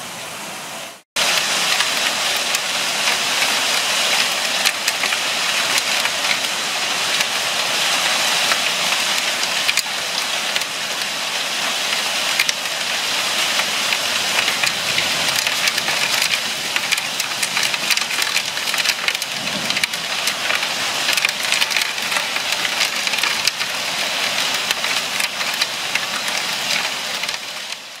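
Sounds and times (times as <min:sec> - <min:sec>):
hail clattering on paving: 0:01.2 - 0:28.0.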